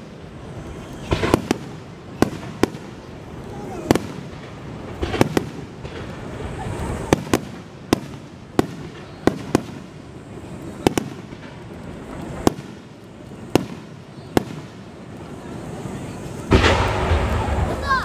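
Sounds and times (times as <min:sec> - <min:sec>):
fireworks bursting with sharp bangs: 0:00.0 - 0:18.0
steady background hiss: 0:00.0 - 0:18.0.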